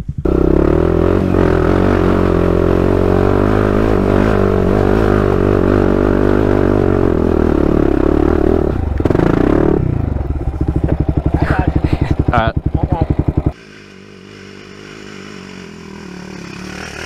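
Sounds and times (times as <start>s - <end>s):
quad bike engine running hard: 0.2s - 17.0s.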